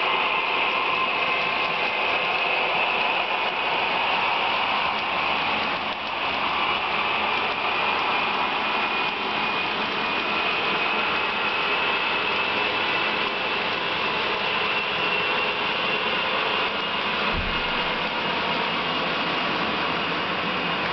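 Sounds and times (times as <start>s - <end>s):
model train wheels clattering on rails: 0.1s - 20.0s.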